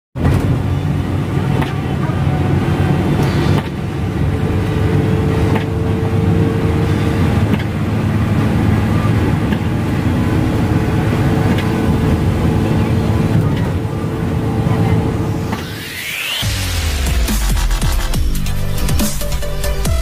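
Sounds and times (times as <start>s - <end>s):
bus engine drone: 0.2s - 20.0s.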